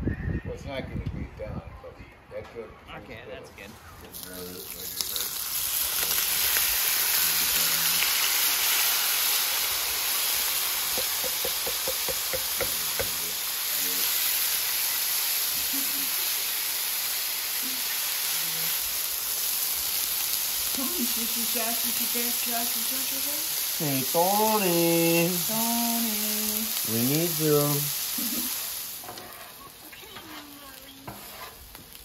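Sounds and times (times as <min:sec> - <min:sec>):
food sizzling in a pan: 0:03.8 - 0:32.0.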